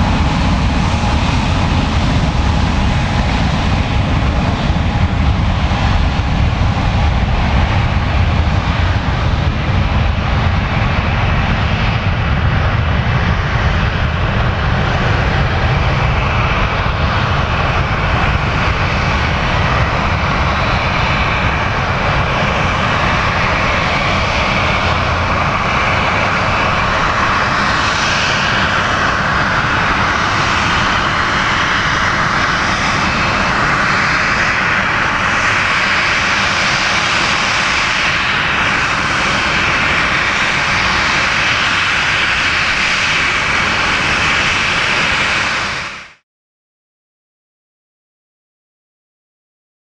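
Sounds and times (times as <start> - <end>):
jet engines running: 0.0 - 46.2.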